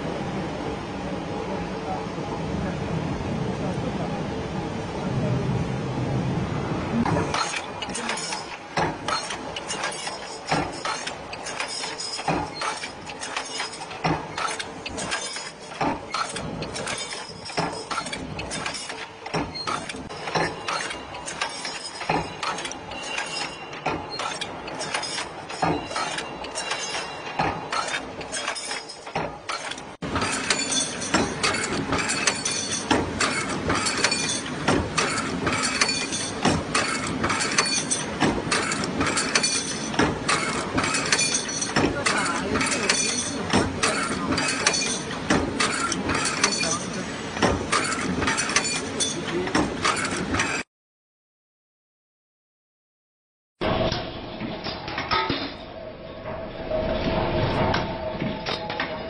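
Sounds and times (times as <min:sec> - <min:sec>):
workshop machine noise: 0:00.0 - 0:50.7, 0:53.6 - 0:59.0.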